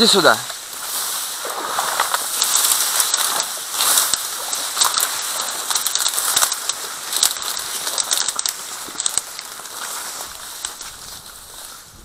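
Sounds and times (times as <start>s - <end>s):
dry reeds rustling and crackling: 0.0s - 12.0s.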